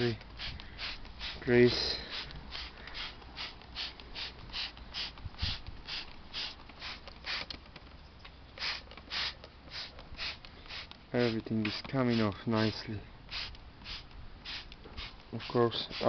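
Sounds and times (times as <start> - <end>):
spray bottle squirting: 0.0 - 7.6, 8.6 - 12.5, 13.3 - 16.0.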